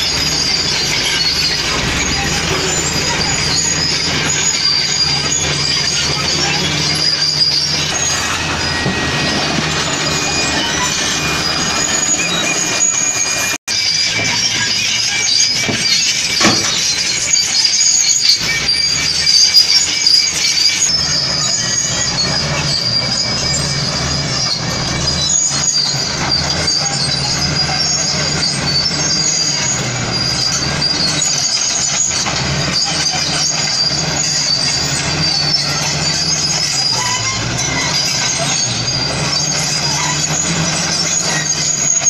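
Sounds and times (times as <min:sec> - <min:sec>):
bulldozer diesel engine running: 0:00.0 - 0:42.0
steel tracks squealing: 0:00.0 - 0:42.0.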